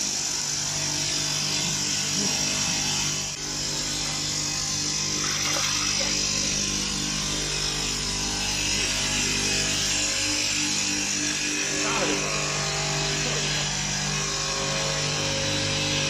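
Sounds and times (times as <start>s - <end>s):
grinding motors humming: 0.0s - 16.0s.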